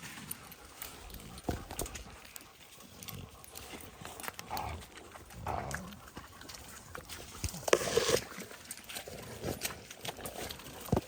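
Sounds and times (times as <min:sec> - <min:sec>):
animals scuffling in brush: 0:00.0 - 0:11.0.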